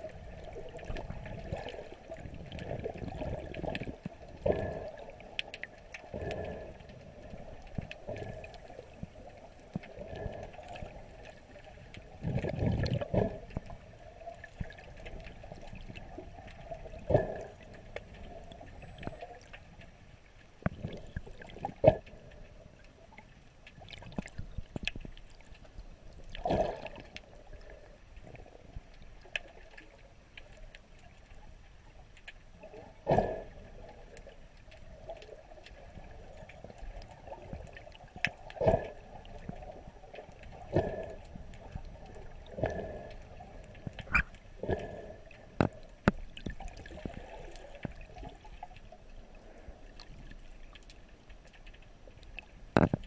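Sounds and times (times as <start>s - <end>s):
underwater sloshing and bubbling: 0.0s - 53.0s.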